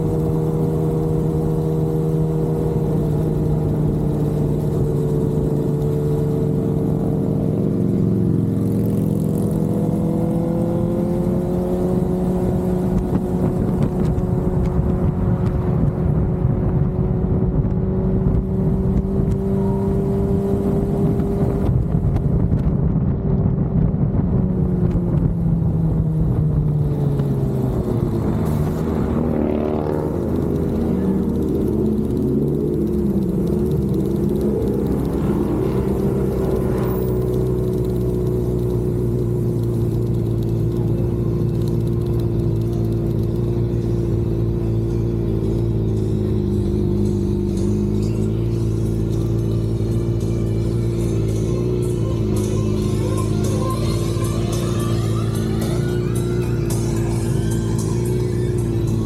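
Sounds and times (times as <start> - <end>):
road and wind rumble: 0.0 - 59.0
vehicle engine hum: 0.0 - 59.0.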